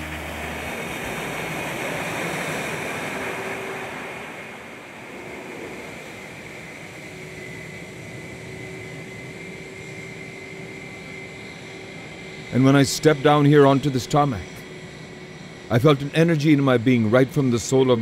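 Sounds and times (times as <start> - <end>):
aircraft engines running: 0.0 - 18.0.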